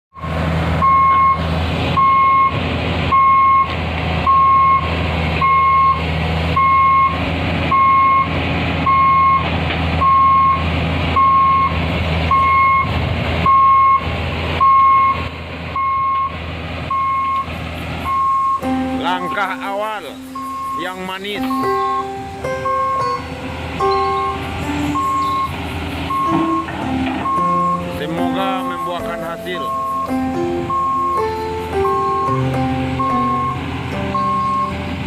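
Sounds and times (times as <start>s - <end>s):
diesel engine running: 0.1s - 35.0s
excavator travel alarm beeping: 0.1s - 35.0s.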